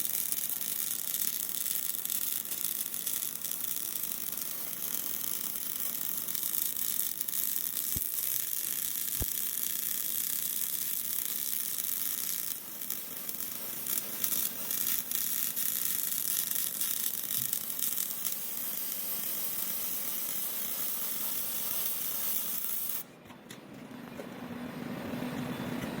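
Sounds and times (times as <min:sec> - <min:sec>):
welding arc hissing: 0:00.0 - 0:23.0.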